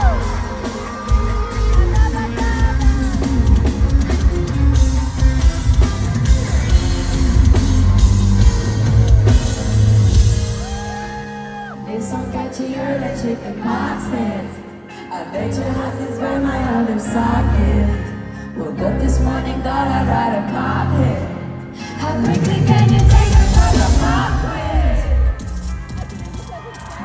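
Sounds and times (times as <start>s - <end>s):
live pop band music: 0.0s - 27.0s.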